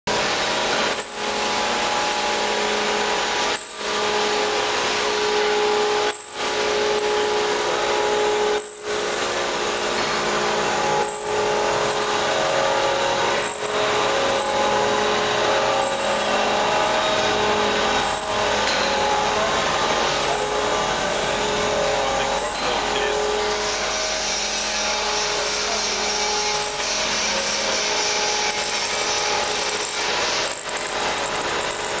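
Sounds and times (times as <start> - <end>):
metal cutting rush: 0.1 - 32.0
milling machine whine: 0.1 - 32.0.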